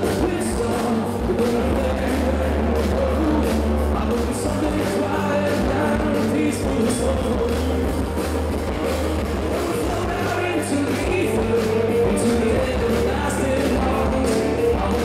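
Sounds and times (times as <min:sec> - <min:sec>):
bass guitar: 0:00.0 - 0:15.0
electric guitars: 0:00.0 - 0:15.0
lead singer singing: 0:00.0 - 0:15.0.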